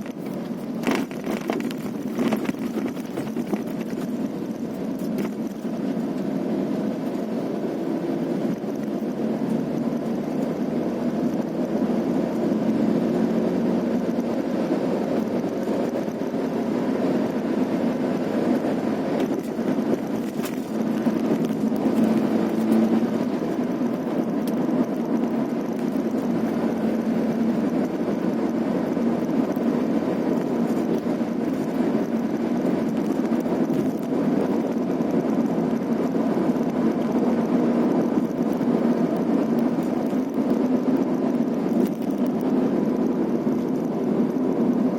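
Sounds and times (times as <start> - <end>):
vehicle engine and road noise: 0.0 - 44.9.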